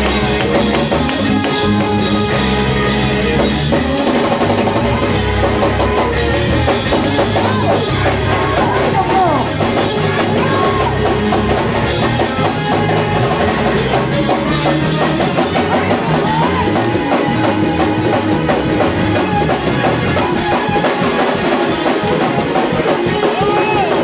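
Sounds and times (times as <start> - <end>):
bass line: 0.0 - 21.1
drum kit: 0.0 - 24.0
live band playing: 0.0 - 24.0.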